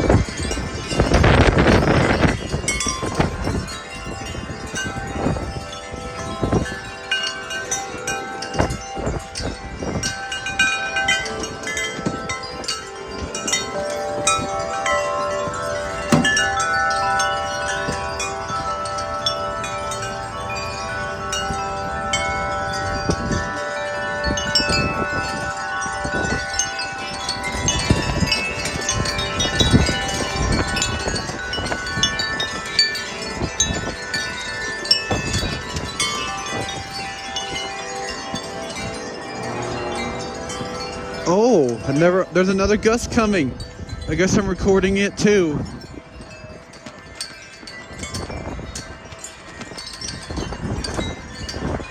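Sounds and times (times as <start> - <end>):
wind chimes ringing: 0.0 - 51.9
wind rumbling on microphone: 0.0 - 51.9.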